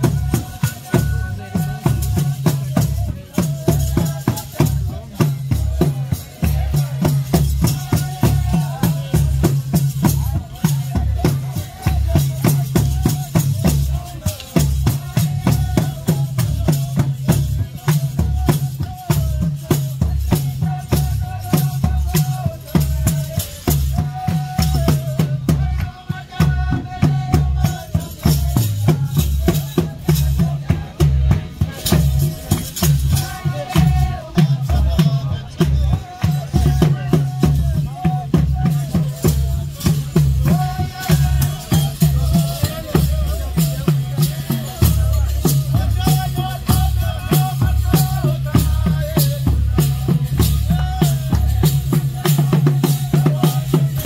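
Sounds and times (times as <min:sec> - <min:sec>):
drums beating: 0:00.0 - 0:54.0
person singing: 0:00.0 - 0:54.0
rattle shaking: 0:00.0 - 0:54.0.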